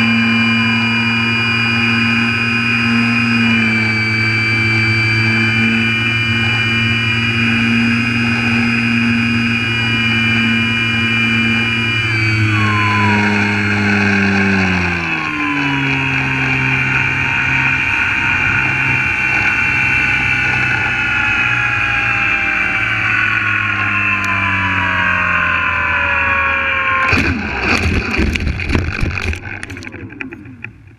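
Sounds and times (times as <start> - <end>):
model airplane motor whine: 0.0 - 30.9.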